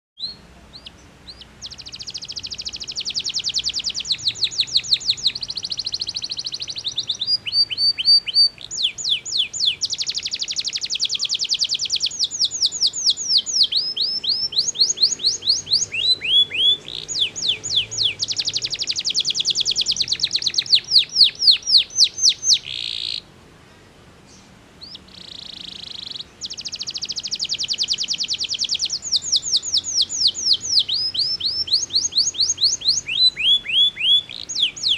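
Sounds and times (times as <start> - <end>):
canary singing trills: 0.2 - 23.3, 24.3 - 34.9.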